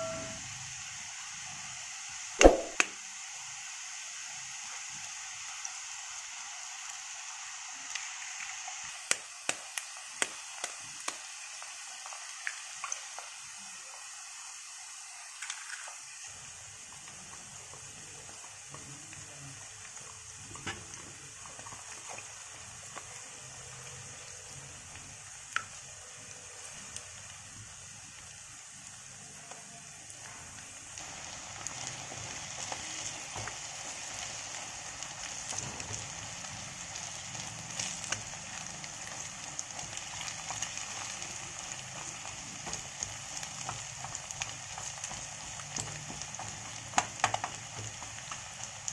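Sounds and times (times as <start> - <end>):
vegetables sizzling in hot oil: 0.0 - 48.9.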